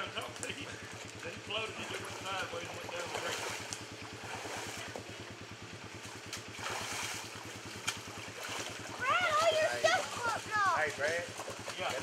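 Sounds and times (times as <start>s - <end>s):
low pulsing drone: 0.0s - 12.0s
water splashing around wading legs: 0.4s - 12.0s.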